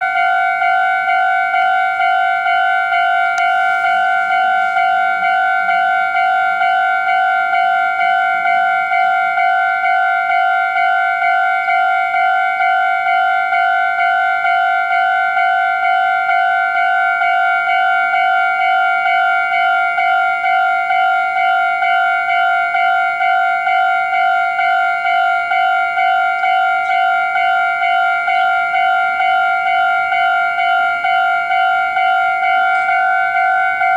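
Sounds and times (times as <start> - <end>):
level crossing bell ringing: 0.0 - 33.9.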